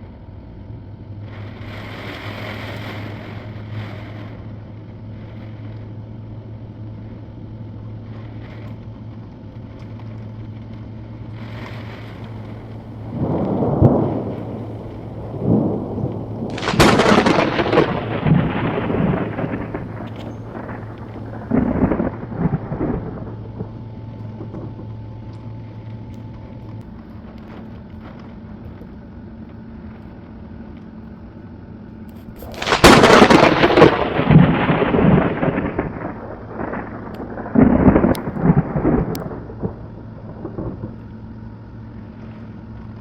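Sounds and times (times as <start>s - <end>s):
rain falling steadily: 0.1s - 43.0s
thunder rumbling and cracking: 1.2s - 28.6s, 32.2s - 43.0s.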